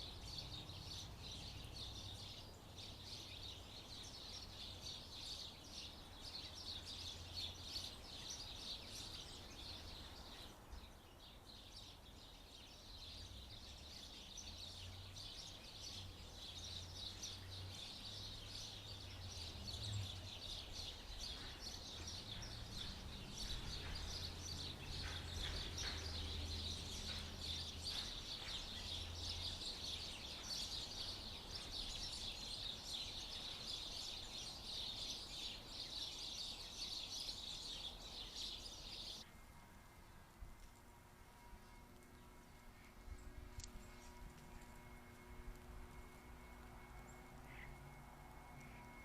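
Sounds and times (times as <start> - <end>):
small birds chirping: 0.0 - 39.3, 41.5 - 49.0.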